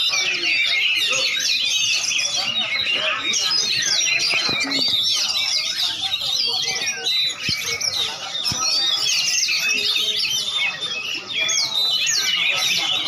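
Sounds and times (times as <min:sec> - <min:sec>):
caged songbirds singing: 0:00.0 - 0:13.0.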